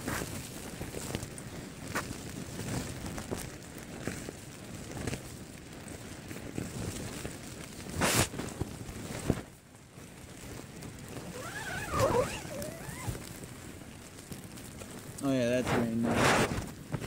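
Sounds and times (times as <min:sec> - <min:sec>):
loud rustle: 0:00.0 - 0:17.0
rain: 0:00.0 - 0:17.0.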